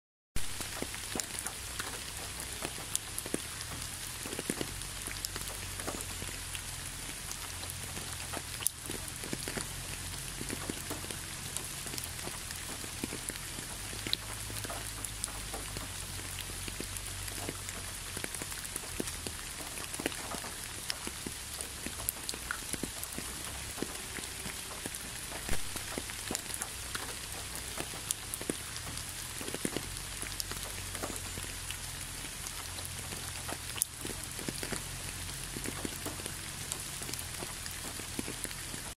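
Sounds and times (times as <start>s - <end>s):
large raindrops tapping: 0.4s - 38.9s
rain falling: 0.4s - 38.9s.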